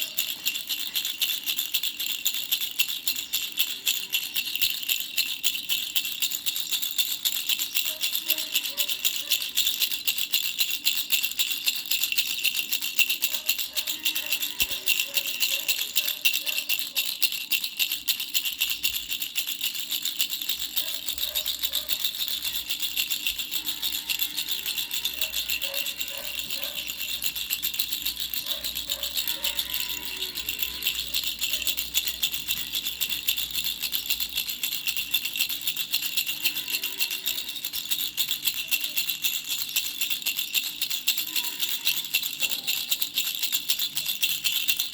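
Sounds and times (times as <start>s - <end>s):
baby rattle bells jingling: 0.0s - 44.9s.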